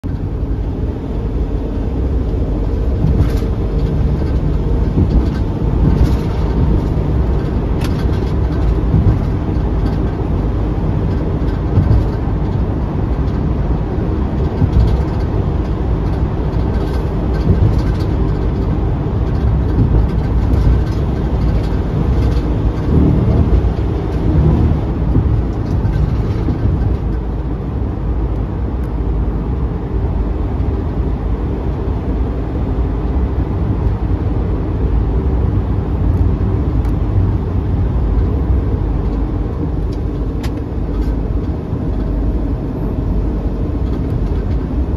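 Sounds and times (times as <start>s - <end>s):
tyres rumbling on road: 0.0s - 44.9s.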